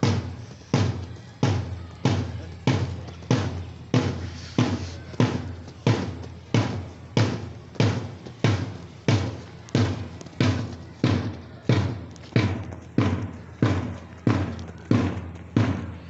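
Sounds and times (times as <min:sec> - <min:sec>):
marching drum beat: 0:00.0 - 0:16.0.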